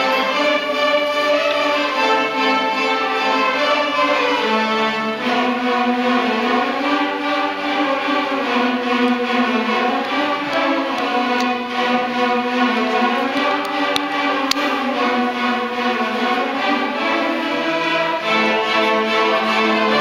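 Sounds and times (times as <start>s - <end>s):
string orchestra playing: 0.0s - 20.0s.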